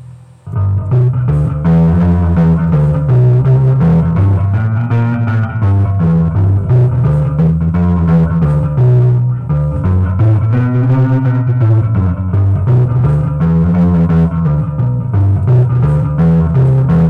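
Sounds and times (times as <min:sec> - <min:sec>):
bass line: 0:00.0 - 0:17.0
blues guitar: 0:00.0 - 0:17.0.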